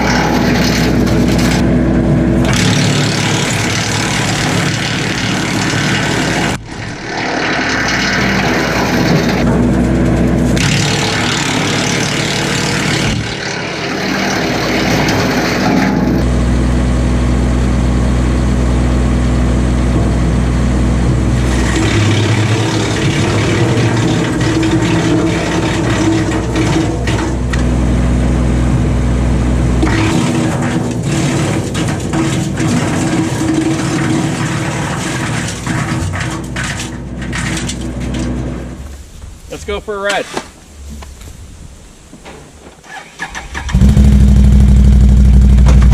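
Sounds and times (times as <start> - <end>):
tractor diesel engine running: 0.0 - 40.1, 42.8 - 45.9
wood chipper: 0.0 - 41.1, 42.8 - 45.9.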